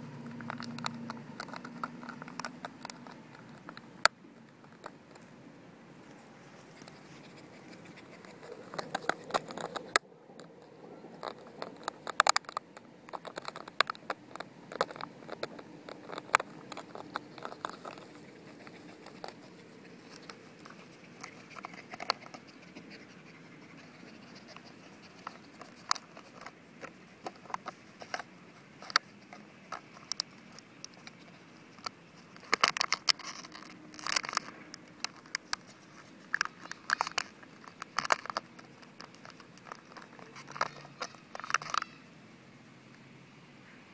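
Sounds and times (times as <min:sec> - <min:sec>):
dog chewing plastic bottle: 0:00.2 - 0:03.8, 0:06.8 - 0:42.0.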